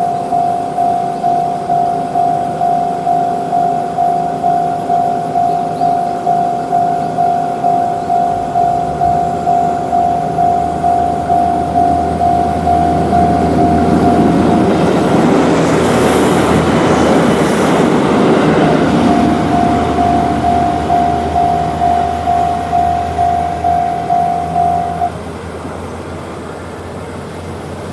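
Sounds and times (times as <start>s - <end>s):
level-crossing warning bell: 0.0s - 26.9s
train rumbling past: 0.0s - 27.9s.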